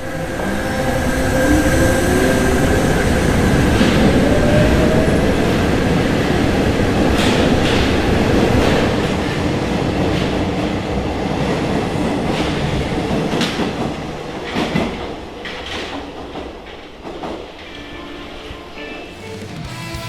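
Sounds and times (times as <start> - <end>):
metro train rumbling: 0.0 - 20.0.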